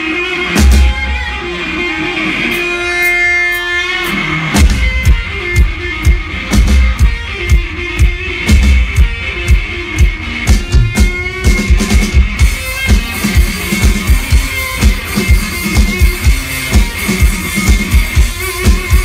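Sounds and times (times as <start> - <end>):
distorted electric guitar: 0.0 - 19.0
drum kit beat: 0.2 - 1.5, 2.5 - 19.0.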